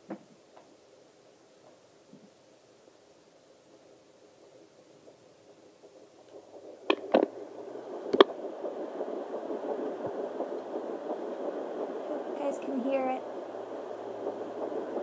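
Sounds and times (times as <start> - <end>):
doppler speaker hissing and crackling: 0.0 - 15.0.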